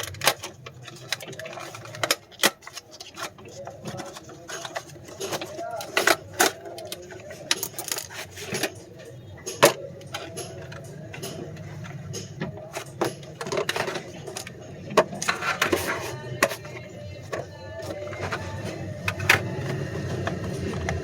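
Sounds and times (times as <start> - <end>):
faint murmur of voices: 0.0 - 21.0.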